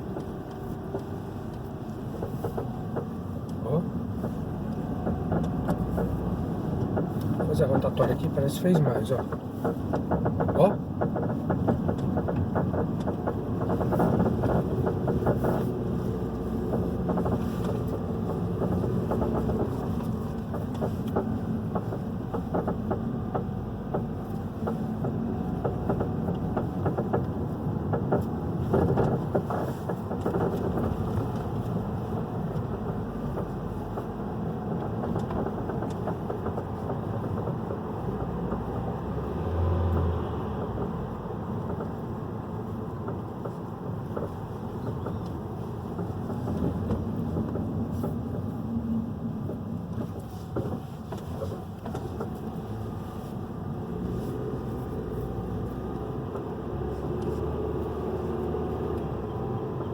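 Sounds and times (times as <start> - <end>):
road and engine noise: 0.0 - 59.9
suspension creaking and knocking: 0.0 - 59.9.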